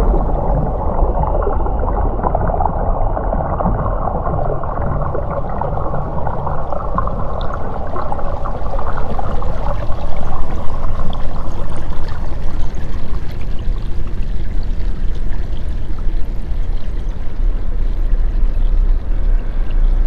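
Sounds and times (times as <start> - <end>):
underwater current rumble: 0.0 - 20.0
water bubbling and gurgling: 0.0 - 20.0.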